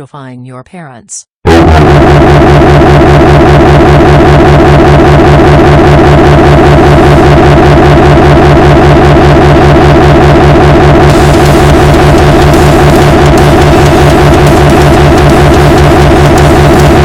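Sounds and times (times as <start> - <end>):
loud distorted pulsing loop: 1.5 - 17.0.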